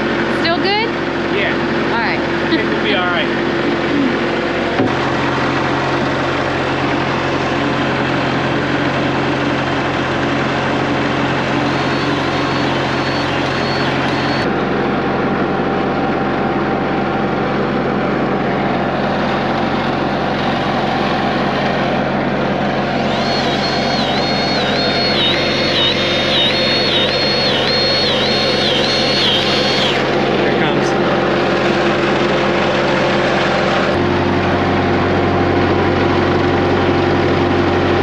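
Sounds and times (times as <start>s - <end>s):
diesel engine running: 0.0s - 38.0s
high wavering whine: 0.0s - 38.0s.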